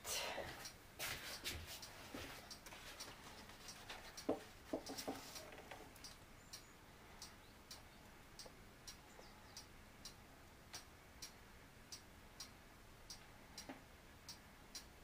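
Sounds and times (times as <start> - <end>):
clock ticking faintly: 1.6 - 15.0.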